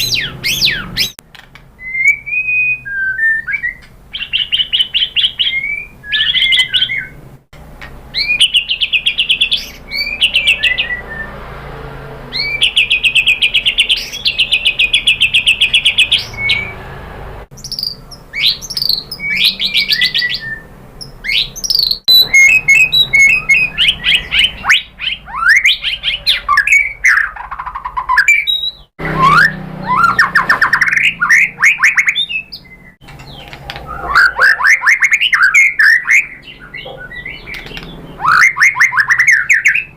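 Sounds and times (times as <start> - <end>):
bird singing trilled phrases: 0.0 - 1.2, 1.8 - 7.2, 8.1 - 11.4, 12.3 - 16.9, 17.6 - 39.9.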